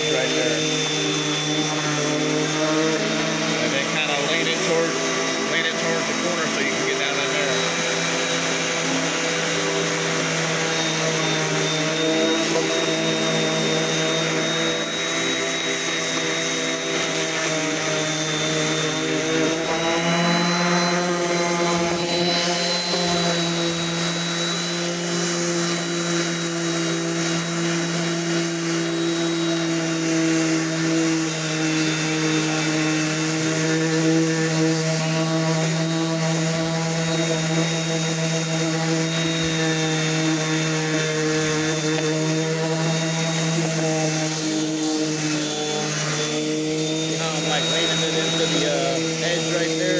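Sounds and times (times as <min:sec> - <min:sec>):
orbit sander sanding wood: 0:00.0 - 0:49.9.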